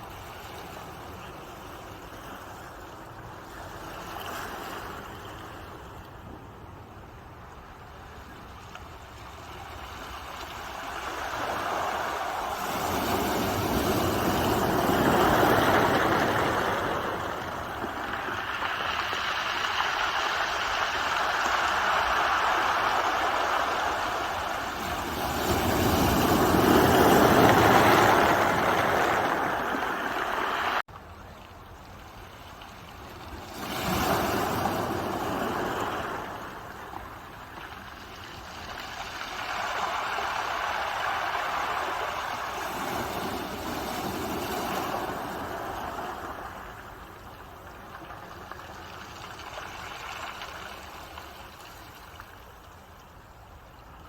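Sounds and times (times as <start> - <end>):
ocean waves breaking: 0.0 - 30.9, 32.1 - 52.2.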